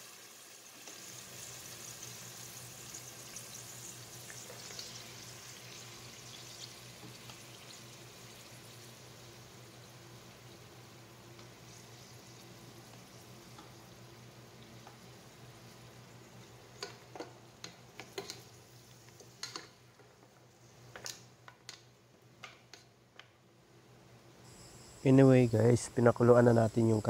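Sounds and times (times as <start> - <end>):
meat sizzling in a pot: 0.0 - 21.9.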